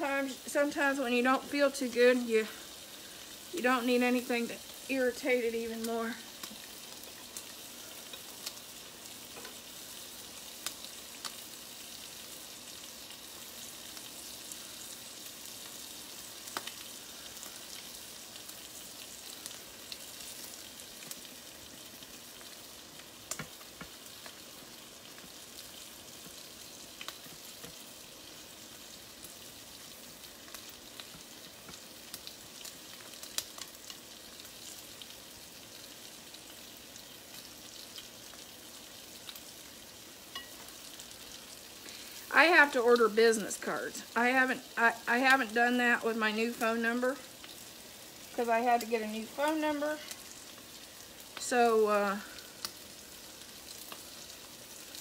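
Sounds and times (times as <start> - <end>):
meat sizzling on a griddle: 0.0 - 55.0.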